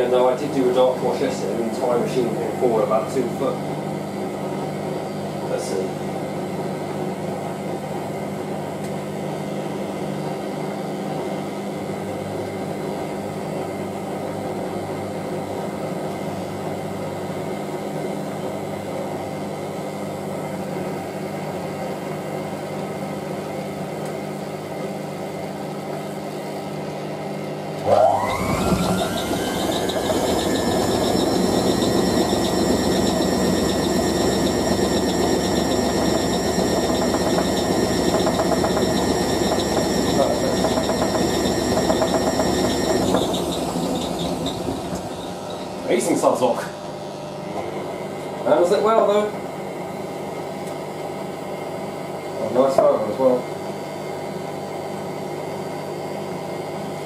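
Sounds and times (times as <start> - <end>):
washing machine humming: 0.0 - 57.0
washing machine spin whine: 0.0 - 57.0.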